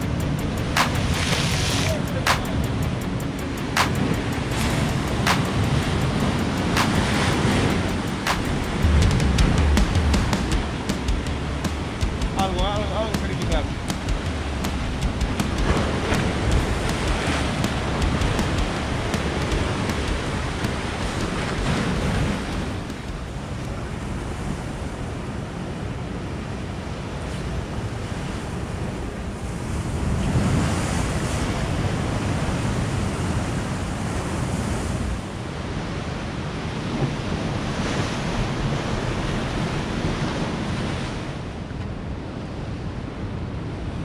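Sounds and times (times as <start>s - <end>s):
ocean surf breaking on a beach: 0.0s - 44.0s.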